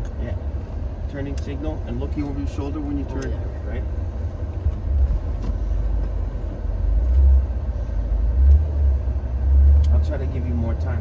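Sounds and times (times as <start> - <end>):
car cabin engine and road rumble: 0.0 - 11.0.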